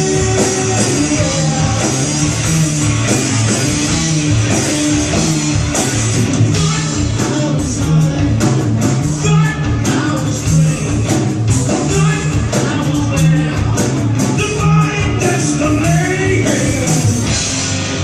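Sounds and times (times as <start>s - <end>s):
bass guitar: 0.0s - 18.0s
distorted electric guitars: 0.0s - 18.0s
drums: 0.0s - 18.0s.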